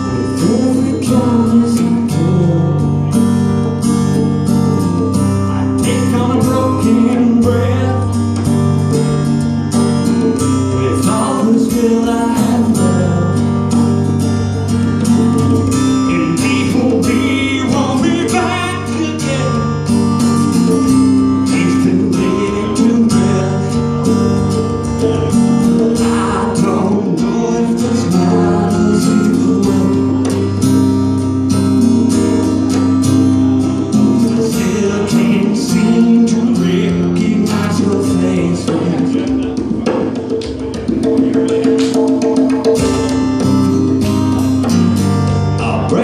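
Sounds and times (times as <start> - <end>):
acoustic guitar strumming chords: 0.0 - 46.0
conga drums played by hand: 0.1 - 46.0.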